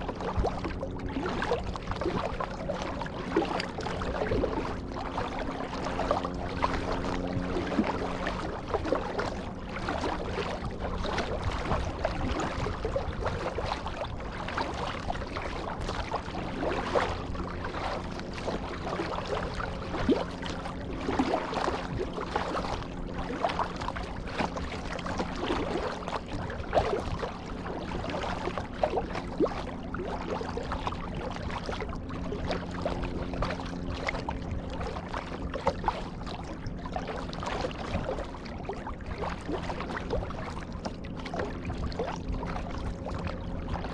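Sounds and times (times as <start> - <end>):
paddle splashing in water: 0.0 - 43.9
steady low hum: 0.0 - 43.9.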